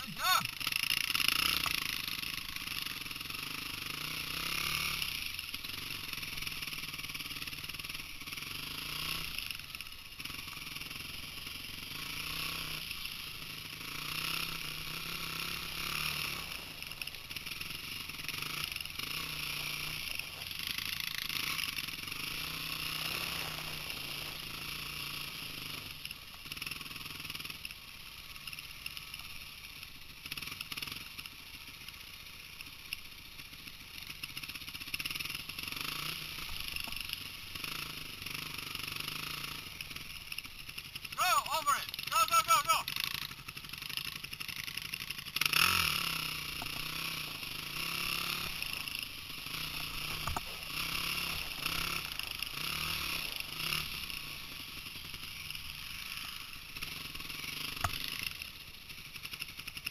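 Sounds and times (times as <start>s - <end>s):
dirt bike engine revving: 0.0s - 25.9s, 35.5s - 59.6s.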